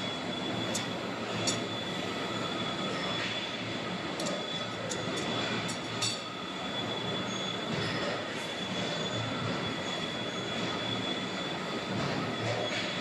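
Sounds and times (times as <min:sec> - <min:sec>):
constant high whine: 0:00.0 - 0:12.9.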